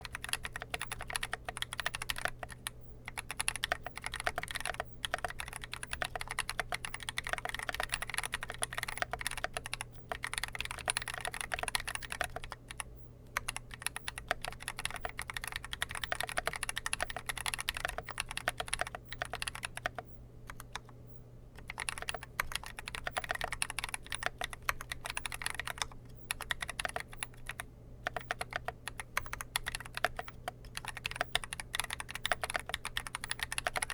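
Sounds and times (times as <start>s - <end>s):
typing on mechanical keyboard: 0.0s - 20.9s, 21.6s - 33.9s
faint steady low hum: 0.0s - 33.9s.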